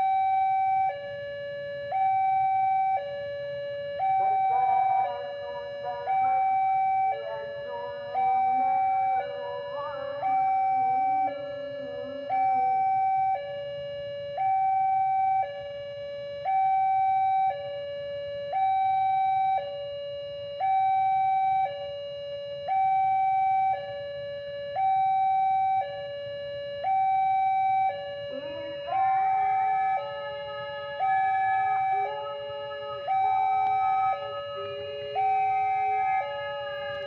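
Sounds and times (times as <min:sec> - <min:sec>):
level crossing two-tone alarm: 0:00.0 - 0:37.0.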